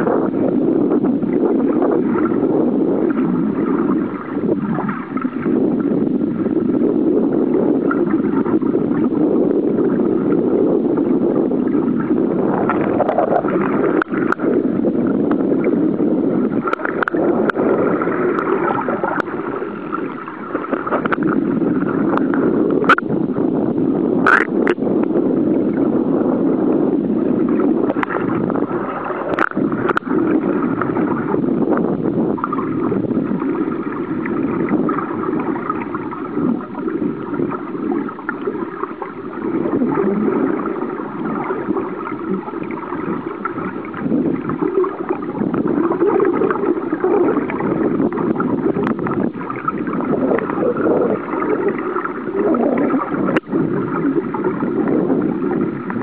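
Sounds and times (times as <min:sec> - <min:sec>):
water gurgling and rushing underwater: 0:00.0 - 0:56.0.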